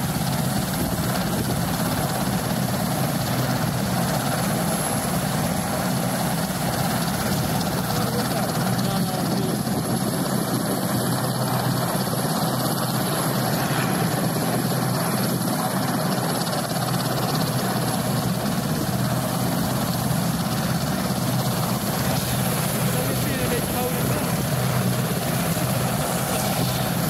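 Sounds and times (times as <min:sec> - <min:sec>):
helicopter engines and rotors: 0:00.0 - 0:27.0.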